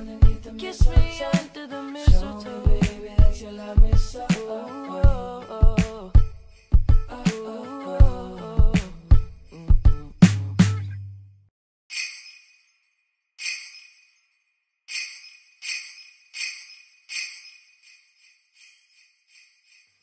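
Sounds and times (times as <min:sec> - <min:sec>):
jingle bells shaken: 0:00.0 - 0:10.2, 0:11.9 - 0:20.0.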